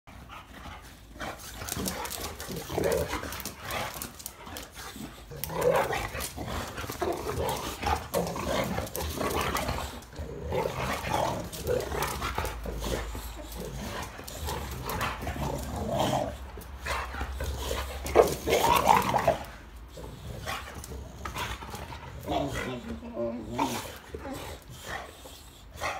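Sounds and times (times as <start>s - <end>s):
dogs growling: 0.1s - 25.9s.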